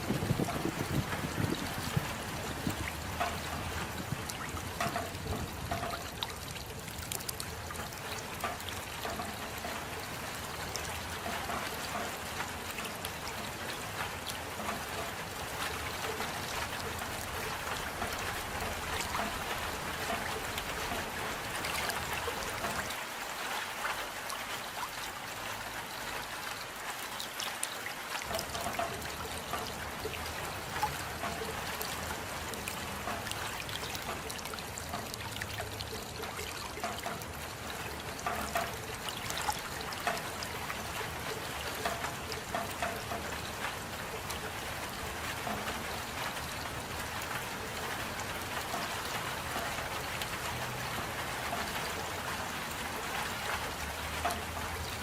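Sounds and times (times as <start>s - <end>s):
steady rain: 0.0s - 55.0s
water trickling and dripping: 0.0s - 55.0s.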